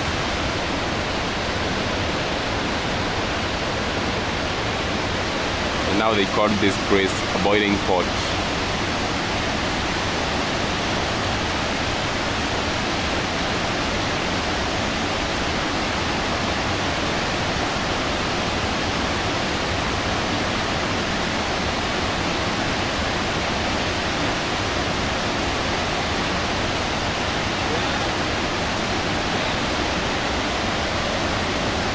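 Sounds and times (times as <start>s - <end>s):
white water rushing: 0.0s - 31.9s.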